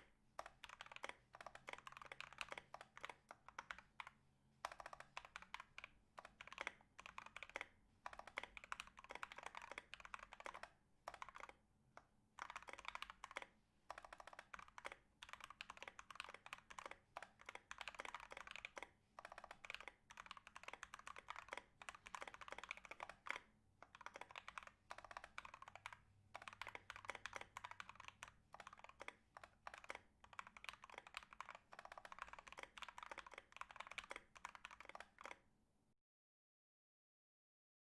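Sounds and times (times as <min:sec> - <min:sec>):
mechanical keyboard typing: 0:00.4 - 0:11.6, 0:12.4 - 0:35.4.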